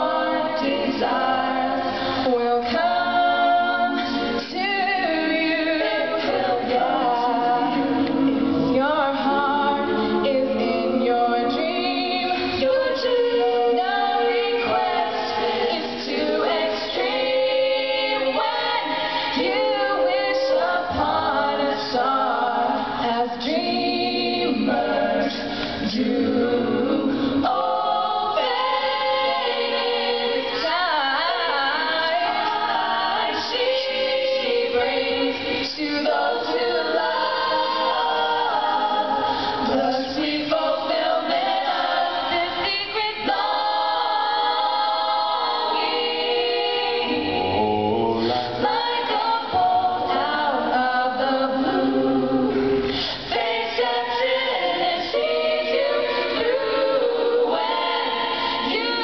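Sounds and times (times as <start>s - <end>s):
vocal group singing in harmony: 0.0s - 59.0s.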